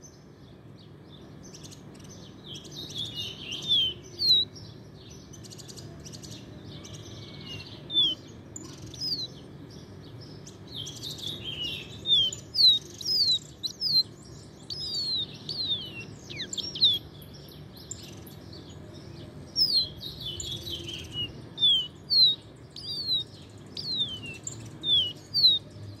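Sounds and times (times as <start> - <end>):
songbird whistling song: 0.0 - 26.0.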